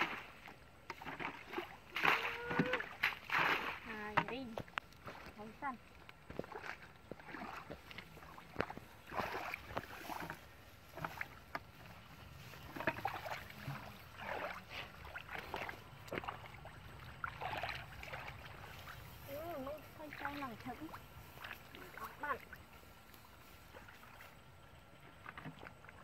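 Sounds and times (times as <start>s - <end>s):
muddy water sloshing and splashing: 0.0s - 26.0s.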